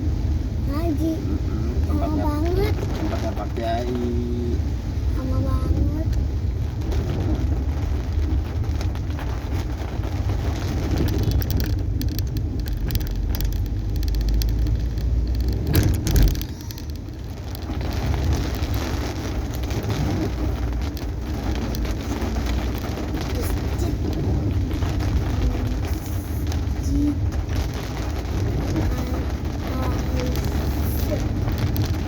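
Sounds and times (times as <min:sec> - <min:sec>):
car road and engine rumble: 0:00.0 - 0:32.0
rain hissing on car: 0:00.0 - 0:32.0.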